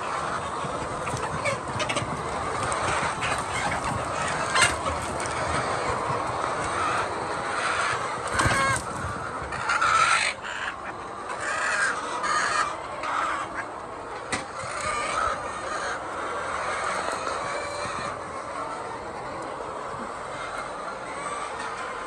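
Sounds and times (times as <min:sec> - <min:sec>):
harsh hen calls: 0:00.0 - 0:22.0
hens clucking and squawking: 0:00.0 - 0:22.0.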